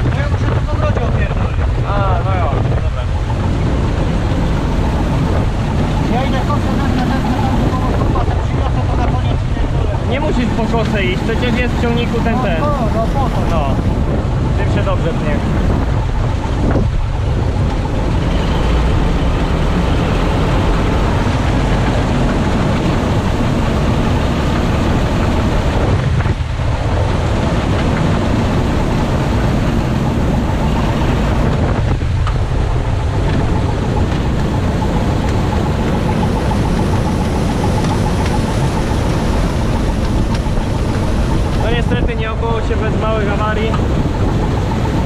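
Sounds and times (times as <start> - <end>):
combine harvester running: 0.0 - 45.0.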